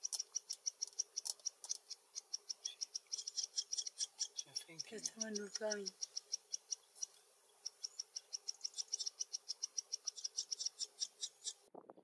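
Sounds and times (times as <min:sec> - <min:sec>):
songbird rapid high ticking calls: 0:00.0 - 0:11.7.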